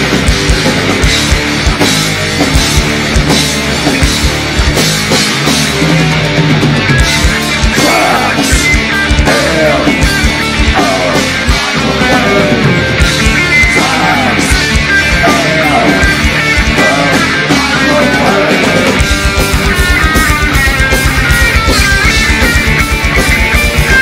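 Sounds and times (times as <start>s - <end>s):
distorted electric guitar lead: 0.0s - 24.0s
heavy metal band playing live: 0.0s - 24.0s.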